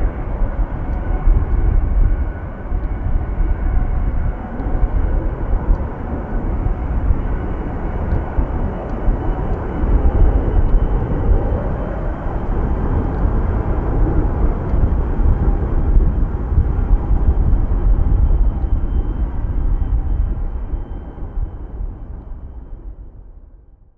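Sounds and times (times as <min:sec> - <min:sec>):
wind buffeting microphone: 0:00.0 - 0:23.7
faint high whine: 0:00.0 - 0:23.8
airplane engines rumbling: 0:00.0 - 0:23.9.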